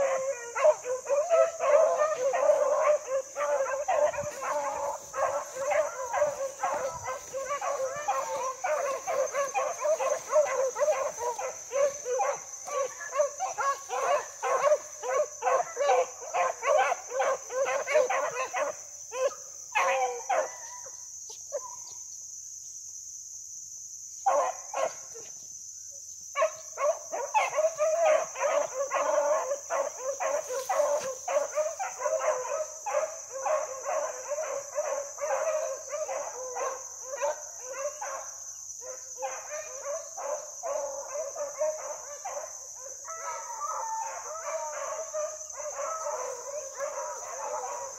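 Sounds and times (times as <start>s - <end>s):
dog barking: 0.0s - 22.0s, 24.3s - 25.4s, 26.4s - 47.9s.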